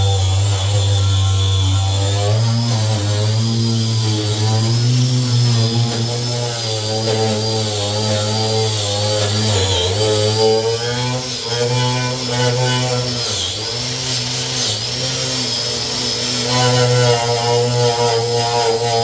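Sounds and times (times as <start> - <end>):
wire brush grinding steel: 0.0 - 19.0.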